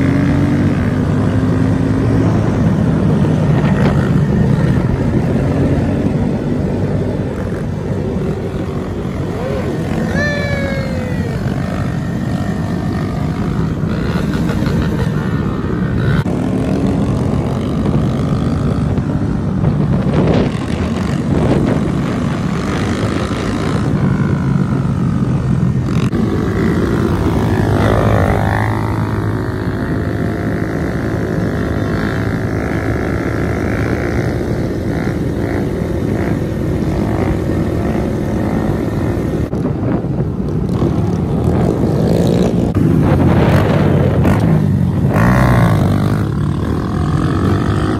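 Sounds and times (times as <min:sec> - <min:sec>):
small motorcycle engines revving: 0:00.0 - 0:47.9.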